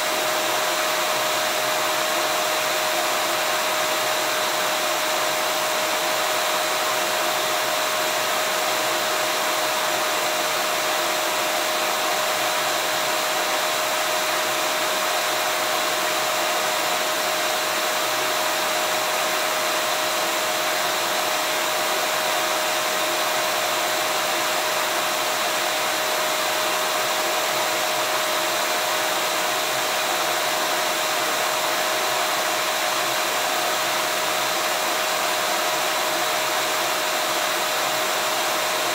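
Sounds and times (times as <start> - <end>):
vacuum cleaner motor running: 0.0 - 38.9.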